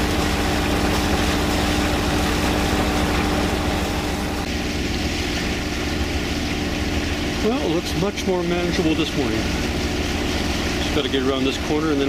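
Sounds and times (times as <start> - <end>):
boat engine running: 0.0 - 12.0
water rushing from wake: 0.0 - 12.0.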